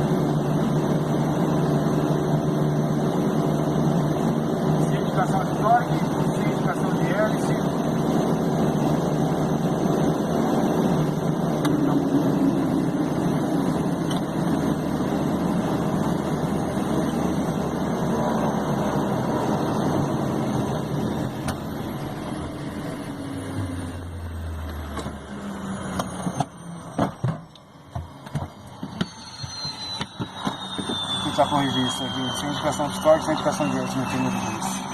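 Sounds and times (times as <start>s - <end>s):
turboprop engine running: 0.0s - 34.9s.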